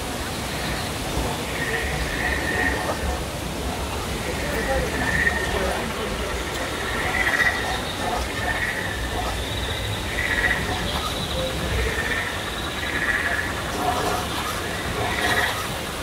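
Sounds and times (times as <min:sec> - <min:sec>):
outdoor background noise: 0:00.0 - 0:16.0
faint crowd voices: 0:00.3 - 0:16.0.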